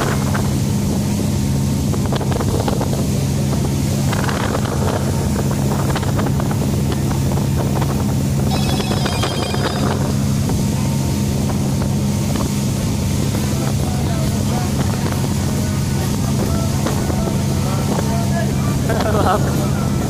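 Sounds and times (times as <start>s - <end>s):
wind buffeting microphone: 0.0s - 8.5s, 9.8s - 20.0s
boat engine humming: 0.0s - 20.0s.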